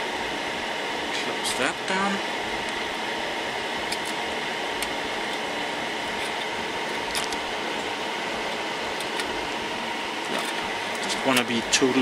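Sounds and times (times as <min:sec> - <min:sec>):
faint steady whine: 0:00.0 - 0:12.0
steady fan noise: 0:00.0 - 0:12.0.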